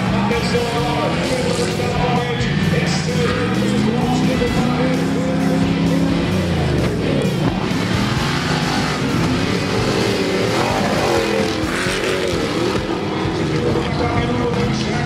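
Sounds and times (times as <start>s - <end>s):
jeep engine revving hard: 0.0s - 14.4s.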